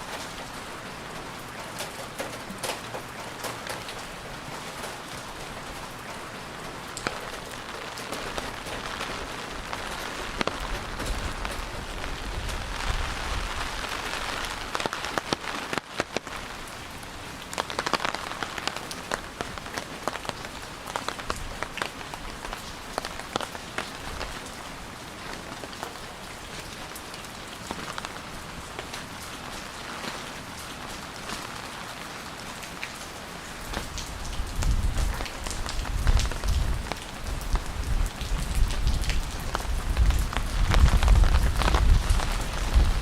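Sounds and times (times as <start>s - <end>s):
rain drops ticking: 0.0s - 43.0s.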